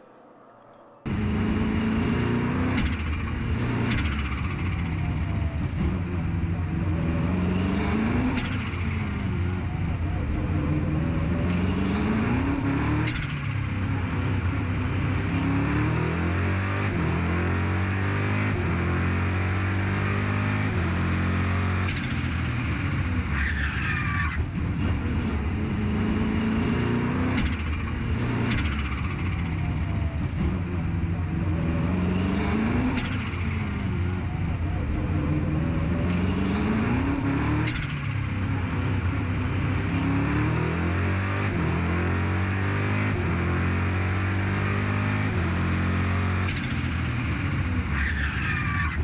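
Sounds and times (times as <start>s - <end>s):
race car engine accelerating: 1.0s - 48.9s.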